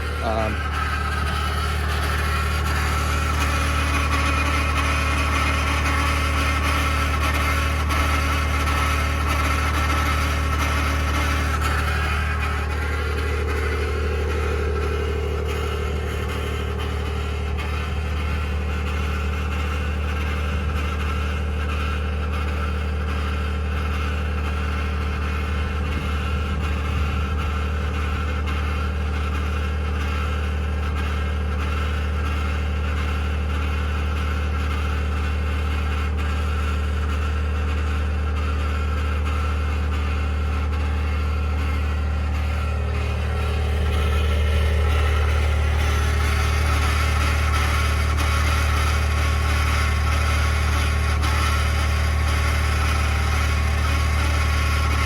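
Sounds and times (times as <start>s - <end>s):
grinding noise: 0.0s - 30.1s, 34.8s - 55.0s
truck engine running: 0.0s - 55.0s.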